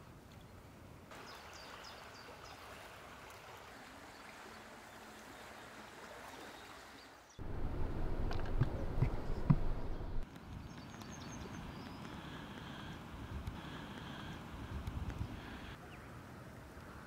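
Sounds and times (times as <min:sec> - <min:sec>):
small river flowing: 0:00.8 - 0:17.0.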